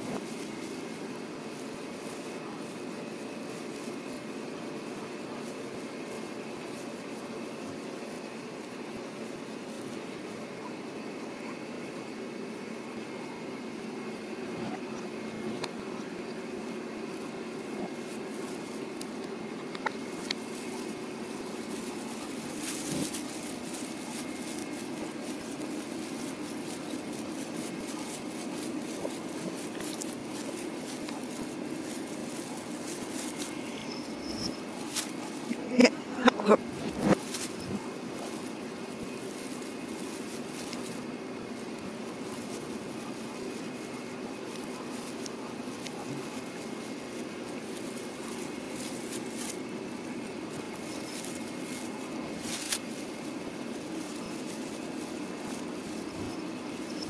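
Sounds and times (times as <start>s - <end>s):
household background hum: 0.0s - 57.0s.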